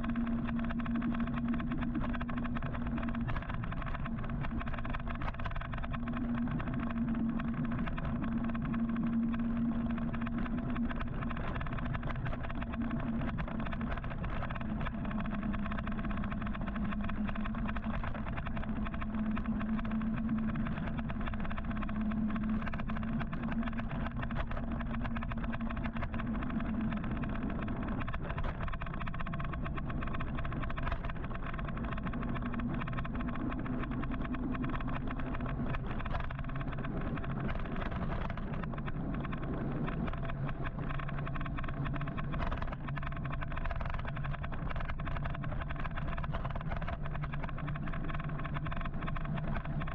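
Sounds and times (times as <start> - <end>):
electric motorcycle low hum: 0.0 - 49.9.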